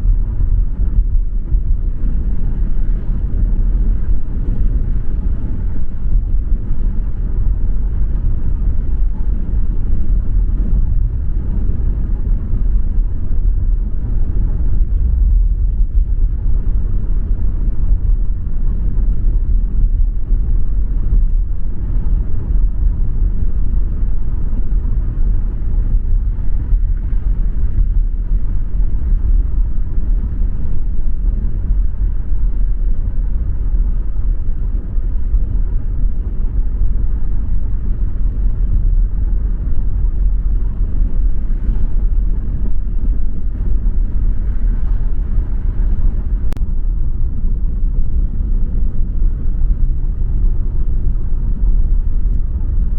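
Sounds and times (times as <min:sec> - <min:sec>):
car engine and road noise: 0:00.0 - 0:52.9.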